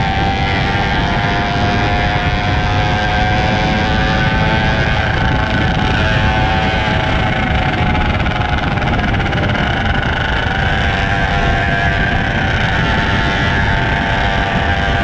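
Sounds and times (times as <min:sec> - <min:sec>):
dense rushing noise: 0:00.0 - 0:15.0
motorcycle engine running steadily: 0:00.0 - 0:15.0.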